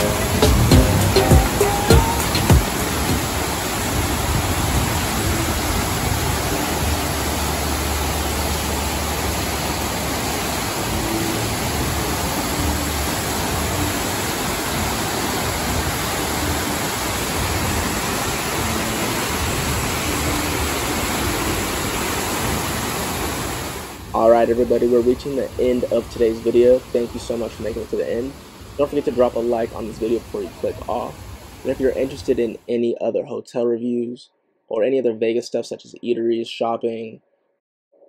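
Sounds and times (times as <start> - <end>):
waterfall rushing into pool: 0.0 - 32.6.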